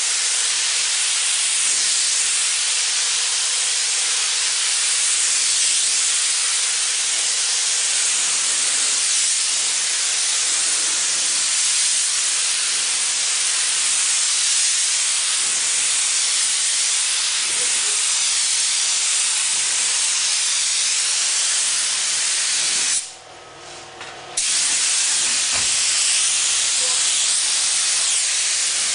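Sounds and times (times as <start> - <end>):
paint spray gun hissing: 0.0 - 23.2, 24.4 - 28.9.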